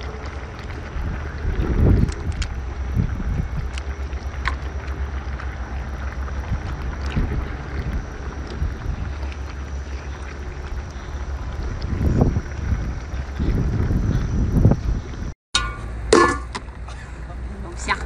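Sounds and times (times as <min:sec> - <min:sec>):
wind buffeting microphone: 0:00.0 - 0:05.3, 0:05.9 - 0:15.4.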